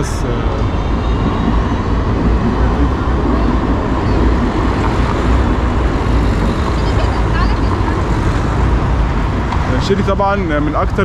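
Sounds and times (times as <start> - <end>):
bus passing: 0.0 - 11.0
street traffic rumble: 0.0 - 11.0.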